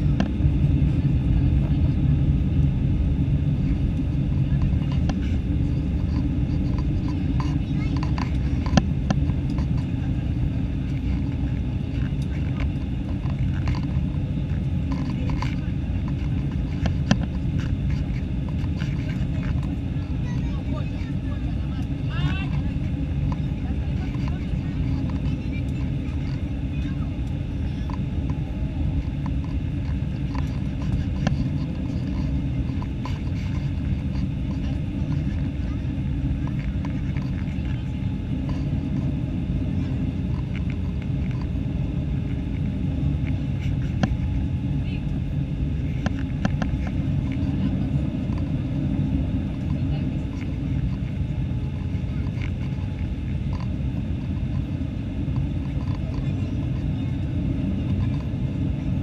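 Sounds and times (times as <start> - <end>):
airflow over fuselage: 0.0 - 59.0
jet engine rumble in cabin: 0.0 - 59.0.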